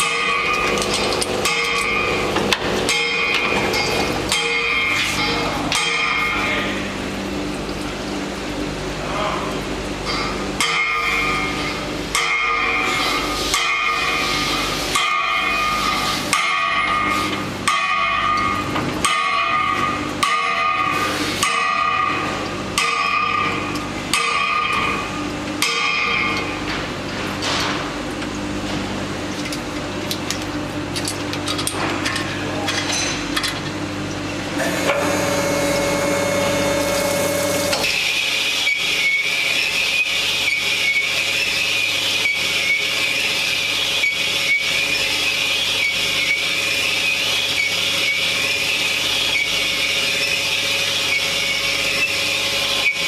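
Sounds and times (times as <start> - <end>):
workshop machinery running: 0.0 - 53.0.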